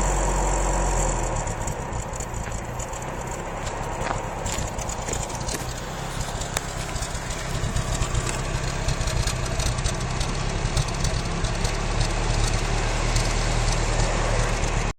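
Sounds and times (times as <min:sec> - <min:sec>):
car engine idling roughly: 0:00.0 - 0:14.9.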